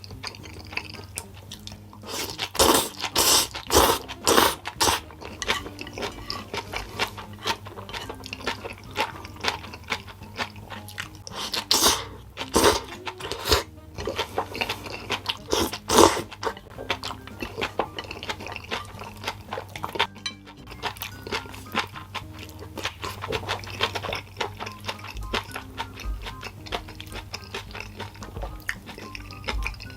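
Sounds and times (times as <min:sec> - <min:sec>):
chewing and crunching: 0:00.0 - 0:29.9
soft background music: 0:00.0 - 0:29.9.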